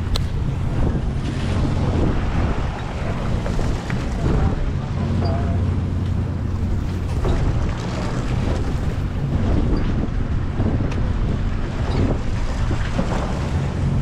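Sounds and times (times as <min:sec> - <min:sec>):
boat engine droning: 0:00.0 - 0:14.0
sea washing against hull: 0:00.0 - 0:14.0
wind buffeting microphone: 0:00.0 - 0:14.0.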